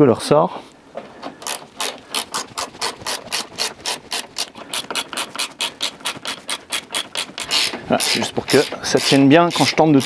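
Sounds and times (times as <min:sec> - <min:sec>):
ratchet wrench clicking: 0:01.4 - 0:10.0.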